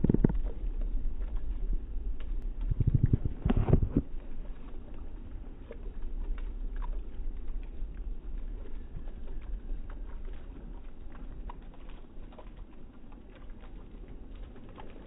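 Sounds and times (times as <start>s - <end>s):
fountain water pattering: 0.0s - 15.0s
low rumble: 0.0s - 15.0s.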